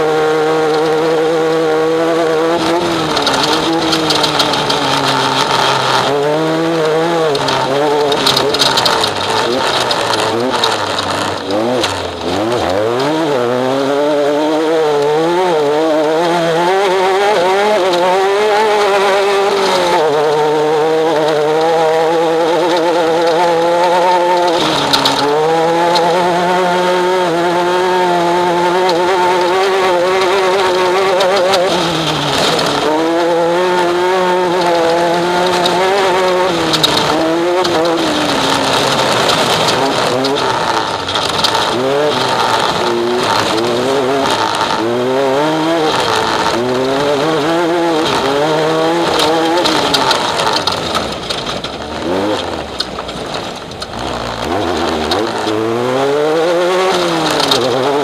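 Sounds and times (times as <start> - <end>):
race vehicle engine revving high: 0.0 - 58.0.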